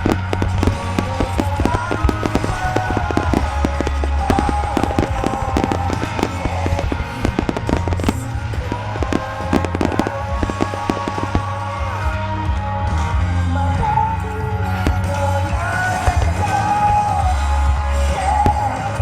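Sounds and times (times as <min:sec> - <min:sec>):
fireworks bangs and crackles: 0:00.0 - 0:19.0
loud music with heavy bass: 0:00.0 - 0:19.0.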